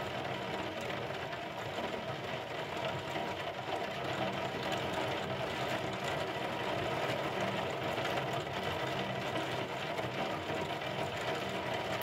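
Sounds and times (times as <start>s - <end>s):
heavy rain on window glass: 0.0s - 12.0s.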